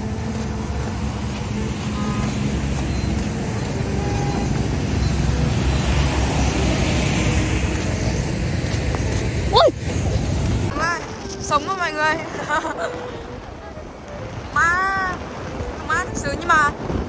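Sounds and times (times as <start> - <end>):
car and motorbike engines: 0.0 - 17.0
traffic on a wet road: 0.0 - 17.0.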